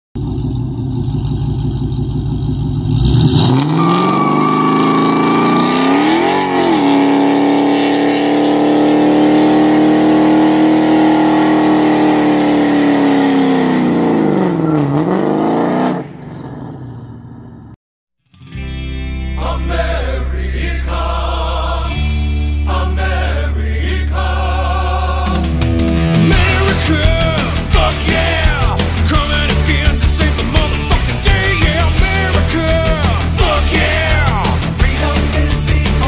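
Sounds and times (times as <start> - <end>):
car engine revving: 0.2 - 17.7, 19.9 - 36.0.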